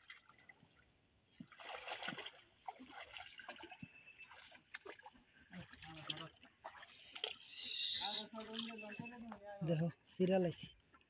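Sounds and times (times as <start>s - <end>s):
footsteps splashing through shallow water: 0.0s - 9.5s.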